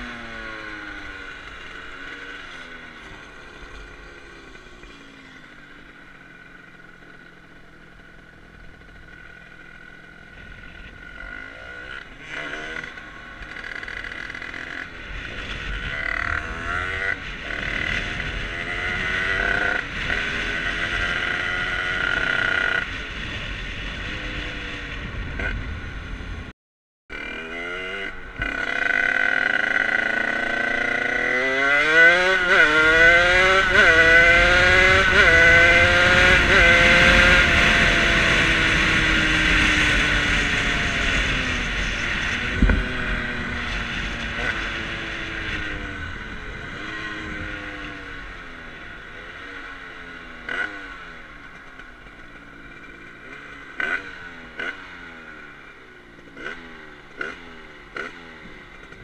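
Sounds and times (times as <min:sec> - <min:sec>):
two-stroke engine accelerating: 0:00.0 - 0:26.5, 0:27.1 - 0:59.0.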